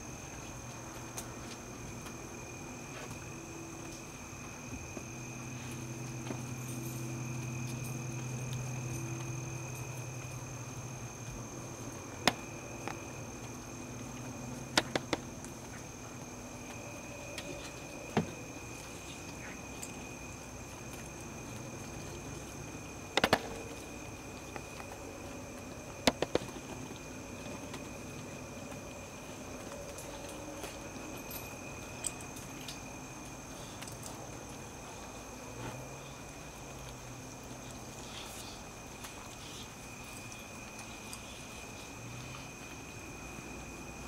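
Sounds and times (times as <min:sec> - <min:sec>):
crickets trilling: 0:00.0 - 0:44.0.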